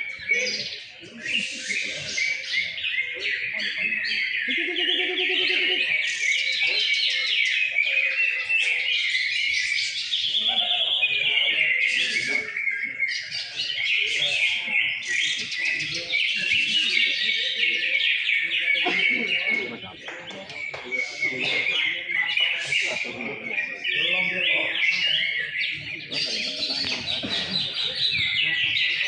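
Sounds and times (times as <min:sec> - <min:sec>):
birds chirping and trilling: 0:00.0 - 0:29.0.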